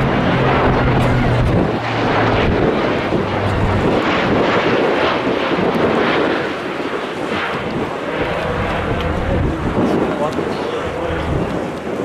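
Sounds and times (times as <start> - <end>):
low propeller hum: 0.0 - 12.0
turboprop aircraft flying past: 0.0 - 12.0.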